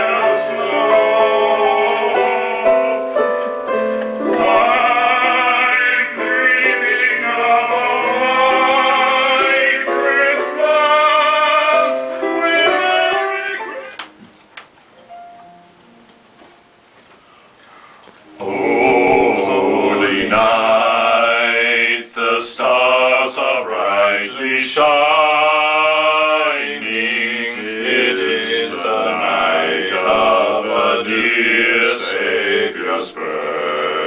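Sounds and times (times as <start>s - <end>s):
men singing together: 0.0s - 3.2s, 4.2s - 14.0s, 18.4s - 34.0s.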